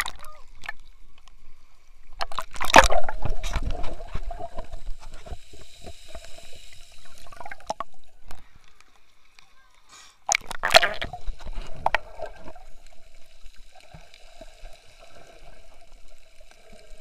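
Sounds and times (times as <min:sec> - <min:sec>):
underwater sloshing and gurgling: 0:00.0 - 0:17.0
water splashing: 0:00.0 - 0:17.0.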